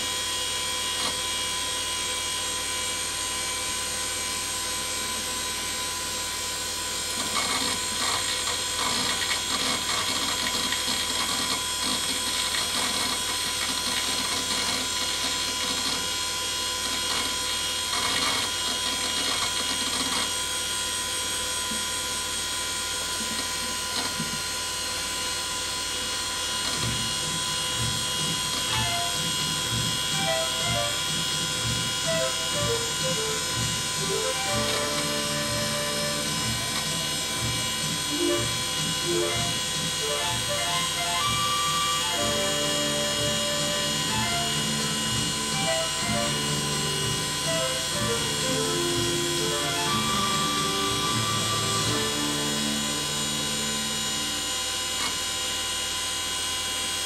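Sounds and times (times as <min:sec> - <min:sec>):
computer fans whining: 0:00.0 - 0:56.9.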